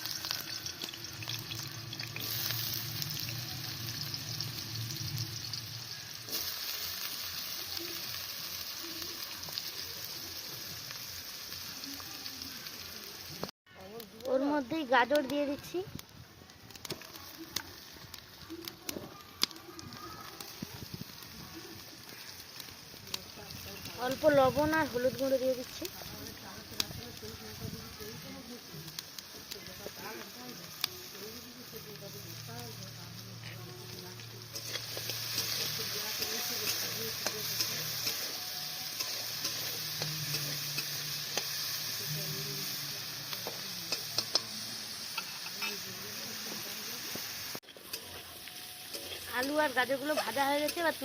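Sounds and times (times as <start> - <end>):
vegetables sizzling in hot oil: 0.0 - 51.0.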